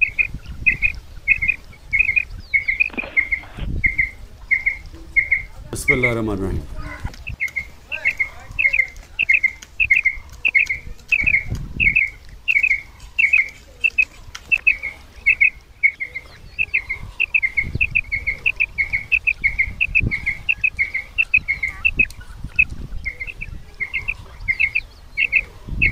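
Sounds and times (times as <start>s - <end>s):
quail calls high chirps: 0.0s - 25.9s.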